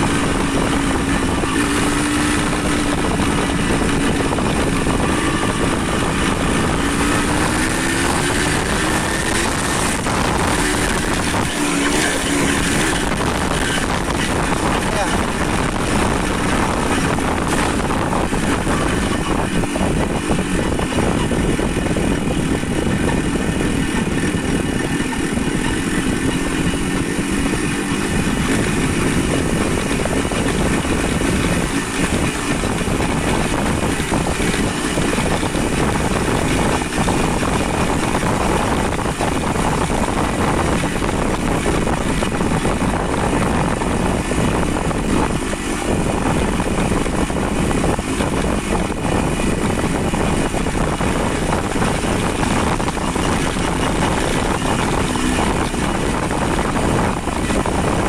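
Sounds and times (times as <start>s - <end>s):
rushing wind and road noise: 0.0s - 58.0s
vehicle engine running: 0.0s - 58.0s.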